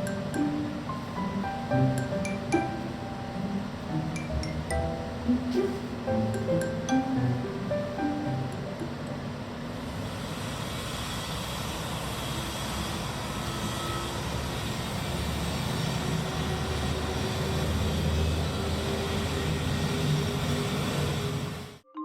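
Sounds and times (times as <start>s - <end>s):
mechanical running noise with rumble: 0.0s - 21.8s.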